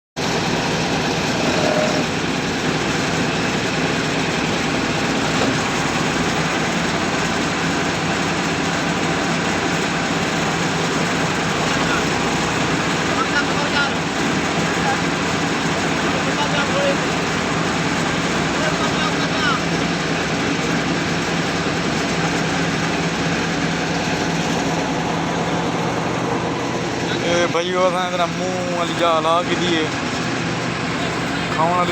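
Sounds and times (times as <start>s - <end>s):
combine harvester running: 0.2s - 31.9s.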